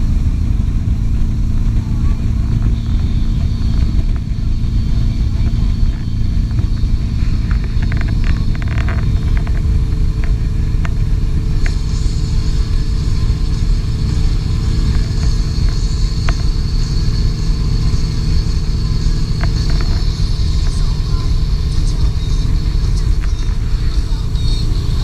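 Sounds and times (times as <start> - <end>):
boat engine rumbling: 0.0 - 25.0
churning boat wake: 0.0 - 25.0.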